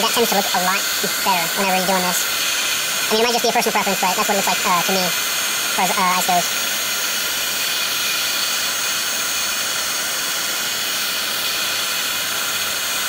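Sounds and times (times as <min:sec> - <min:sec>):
heat gun blowing air: 0:00.0 - 0:13.0.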